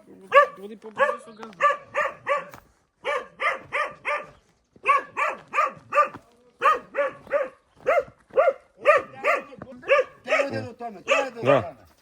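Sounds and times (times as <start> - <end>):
dog barking: 0.3 - 11.8.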